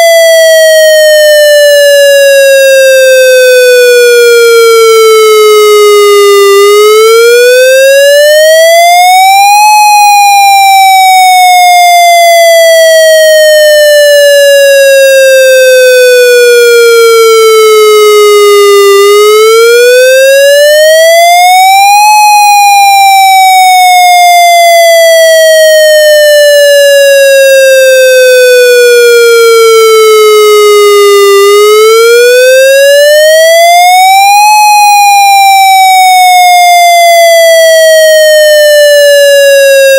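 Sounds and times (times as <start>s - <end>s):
siren wailing: 0.0s - 39.9s.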